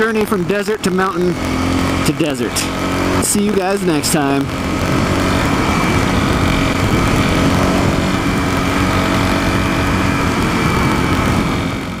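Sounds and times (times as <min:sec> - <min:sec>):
motorcycle engine running: 0:00.0 - 0:12.0
rush of noise: 0:00.0 - 0:12.0.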